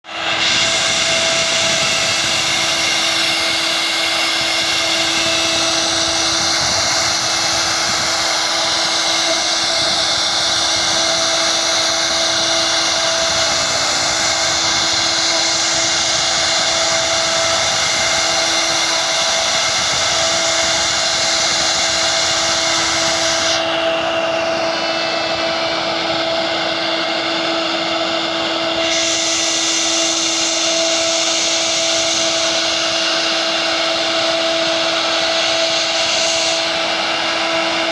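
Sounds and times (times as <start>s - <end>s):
power tool motor whining: 0.1s - 37.9s.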